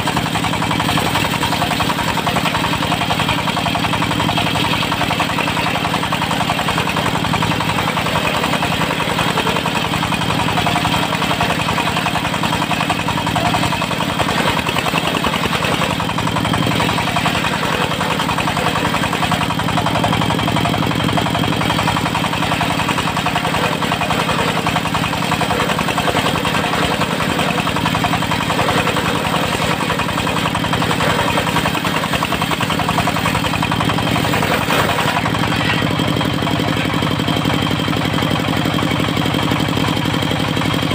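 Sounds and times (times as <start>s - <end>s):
sawmill diesel engine running: 0.0s - 40.9s.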